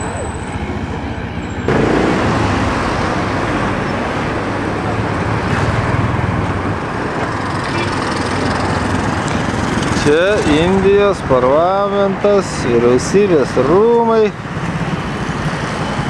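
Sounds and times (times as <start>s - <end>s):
road traffic with engine hum: 0.0s - 16.0s.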